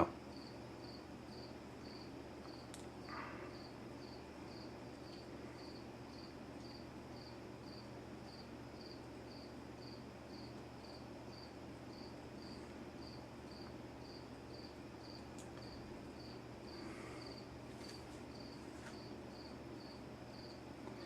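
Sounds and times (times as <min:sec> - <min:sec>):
ceiling fans humming: 0:00.0 - 0:21.0
cricket chirping: 0:00.0 - 0:21.0.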